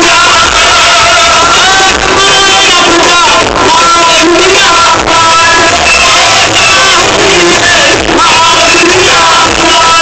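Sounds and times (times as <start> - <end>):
live stage music over loudspeakers: 0.0 - 10.0.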